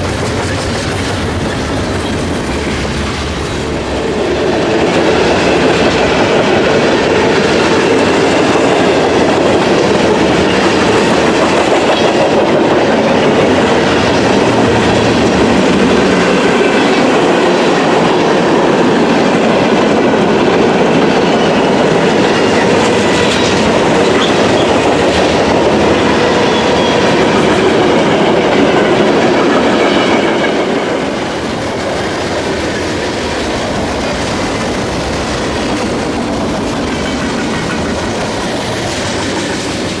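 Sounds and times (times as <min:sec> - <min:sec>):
freight train rolling past: 0:00.0 - 0:40.0
wheels clacking over rail joints: 0:00.0 - 0:40.0.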